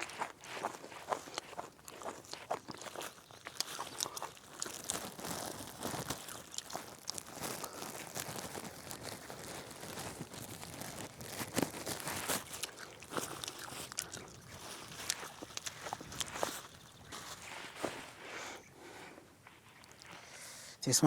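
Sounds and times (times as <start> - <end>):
crunching and crinkling rustles: 0.0 - 20.3.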